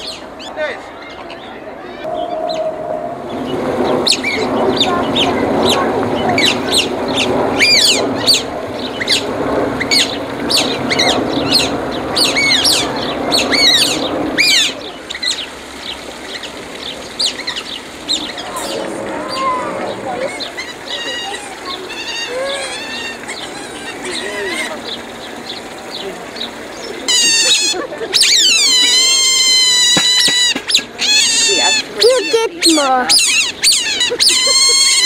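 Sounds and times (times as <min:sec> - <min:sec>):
steady noisy murmur: 0:00.0 - 0:35.0
small birds chirping: 0:03.3 - 0:35.0.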